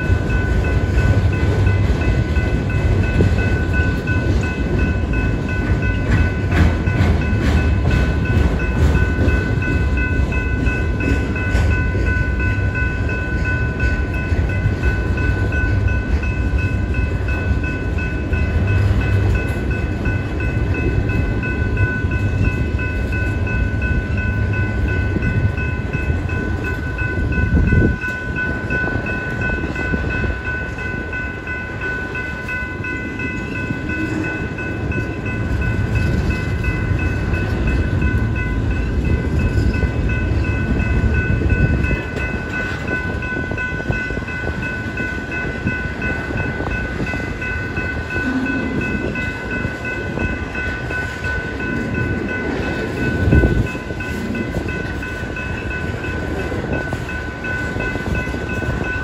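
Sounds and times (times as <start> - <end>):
high-pitched ringing tones: 0.0 - 59.0
train wheels rumbling on rails: 0.0 - 59.0.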